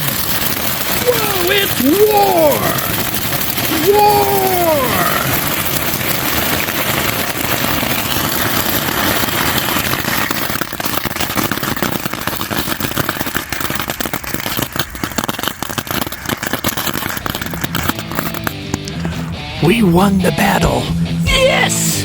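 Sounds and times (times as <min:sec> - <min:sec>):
fireworks hissing and crackling: 0:00.0 - 0:22.0.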